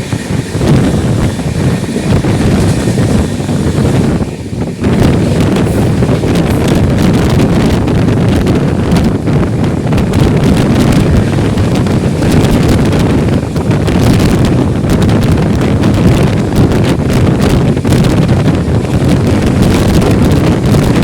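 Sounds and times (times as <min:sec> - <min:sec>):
express train rushing rumble: 0:00.0 - 0:21.0
wind buffeting microphone: 0:00.0 - 0:21.0.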